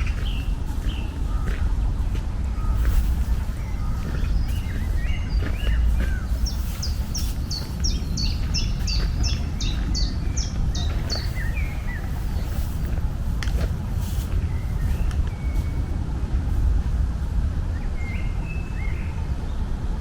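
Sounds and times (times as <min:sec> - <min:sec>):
birds chirping: 0:00.0 - 0:19.7
songbird singing: 0:00.0 - 0:19.7
steady low rumble: 0:00.0 - 0:20.0.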